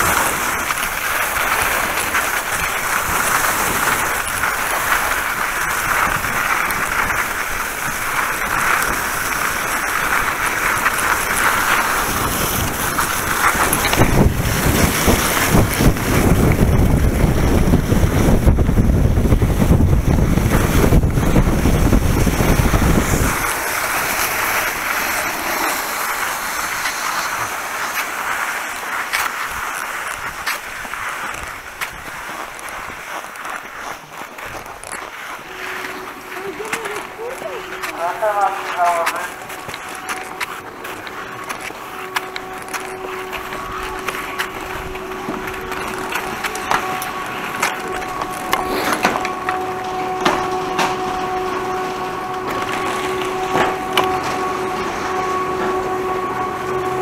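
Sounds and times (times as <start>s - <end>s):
wind buffeting microphone: 0.0s - 28.8s, 29.5s - 57.0s
skis scraping over snow: 0.0s - 57.0s.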